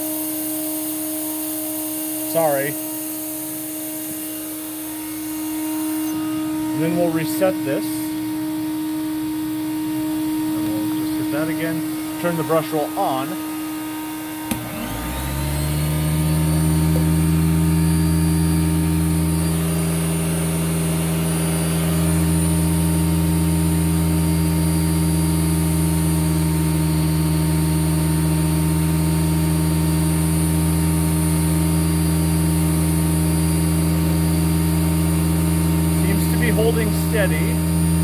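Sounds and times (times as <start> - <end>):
vacuum cleaner motor hum: 0.0 - 38.0.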